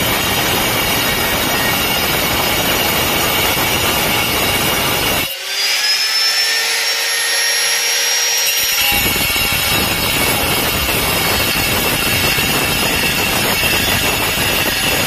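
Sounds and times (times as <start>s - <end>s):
angle grinder cutting tile: 0.0s - 15.0s.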